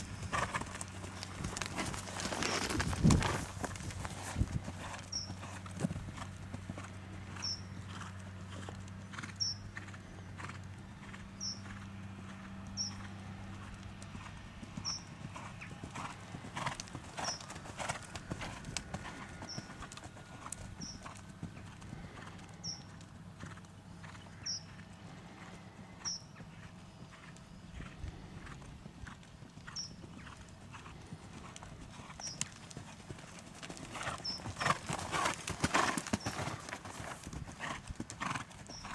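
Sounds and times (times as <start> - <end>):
horse hoofbeats on soft ground: 0.0 - 38.9.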